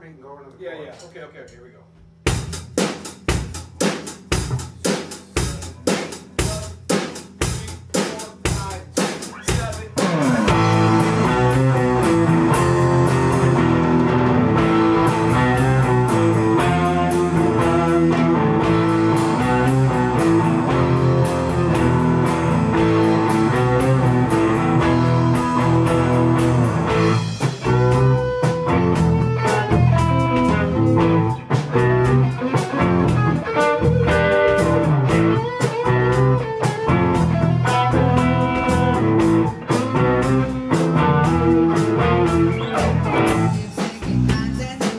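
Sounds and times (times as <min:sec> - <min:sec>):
live rock band playing: 0:02.2 - 0:44.9.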